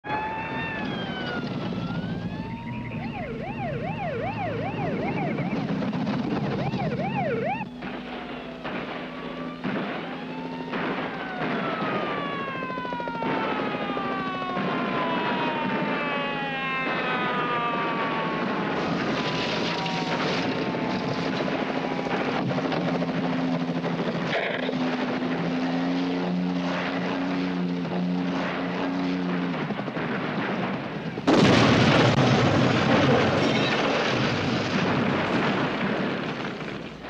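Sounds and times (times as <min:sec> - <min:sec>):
police sirens: 0:00.0 - 0:37.0
car engines running: 0:00.2 - 0:31.6.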